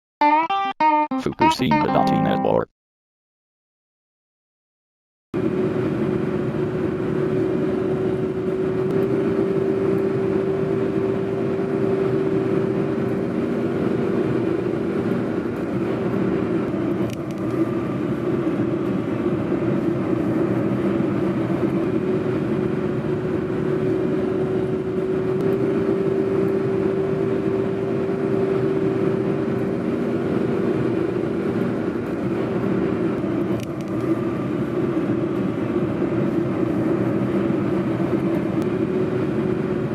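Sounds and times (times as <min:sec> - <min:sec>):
car engine: 0:05.4 - 0:39.9.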